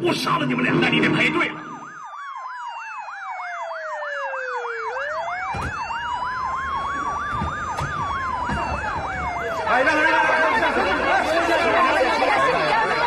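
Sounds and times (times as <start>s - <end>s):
wailing siren: 0.0s - 13.0s
warbling siren yelp: 0.0s - 13.0s.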